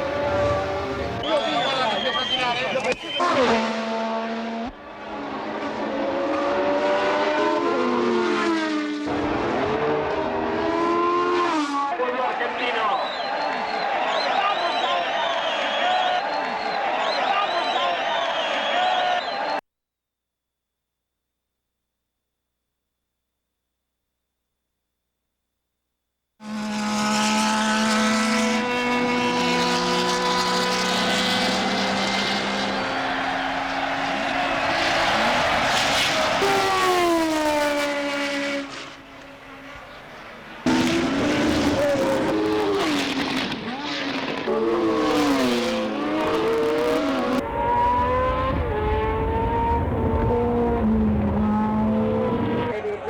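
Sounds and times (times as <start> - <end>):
racing engines at high revs: 0.0 - 19.6, 26.4 - 53.0.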